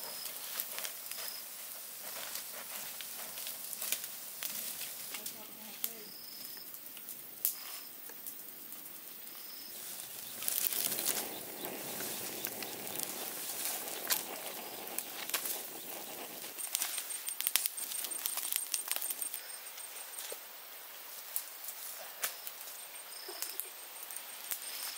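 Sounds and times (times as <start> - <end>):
rushing flame: 0.0 - 22.8
wood fire crackling and popping: 0.0 - 24.9.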